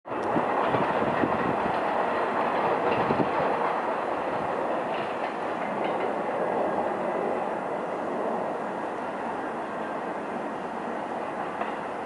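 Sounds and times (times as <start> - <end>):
train wheels rumbling on track: 0.1 - 12.0.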